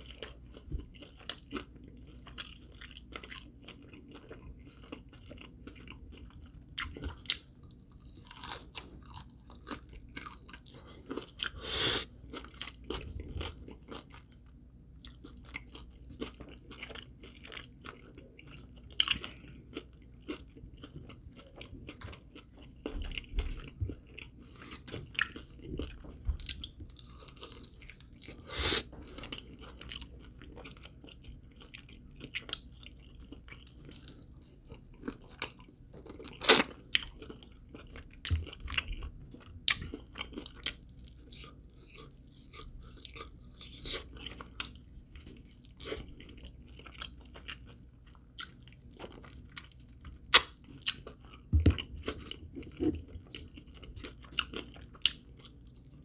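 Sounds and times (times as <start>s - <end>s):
person chewing crispy chicken: 0.0s - 56.0s.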